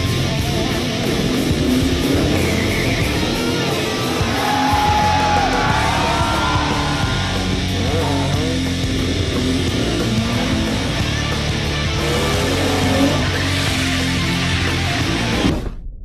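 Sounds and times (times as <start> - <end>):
electric guitar: 0.0 - 15.7
hard rock music: 0.0 - 15.7.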